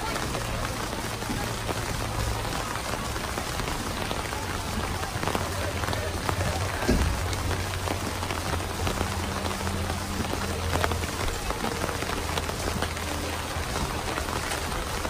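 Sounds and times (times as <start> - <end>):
pouring rain: 0.0 - 15.0
raindrops tapping on surfaces: 0.0 - 15.0.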